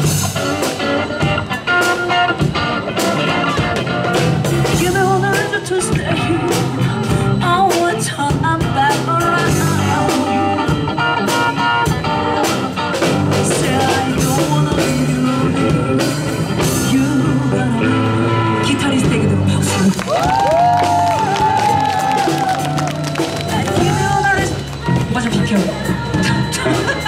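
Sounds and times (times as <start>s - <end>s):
drum kit: 0.0s - 27.0s
electric bass guitar: 0.0s - 27.0s.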